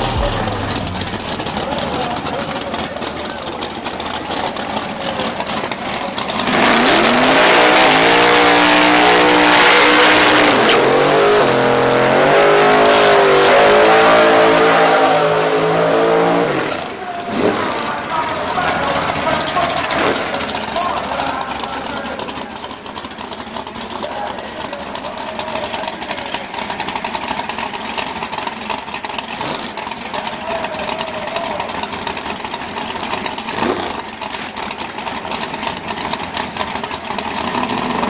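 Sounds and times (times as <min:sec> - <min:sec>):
drag car engine revving: 0:00.0 - 0:38.0.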